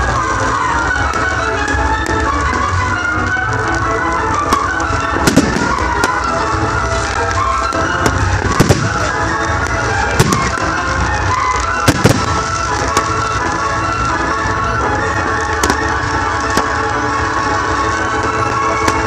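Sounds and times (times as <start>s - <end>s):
background music: 0.0s - 19.0s
fireworks bursting: 0.0s - 19.0s.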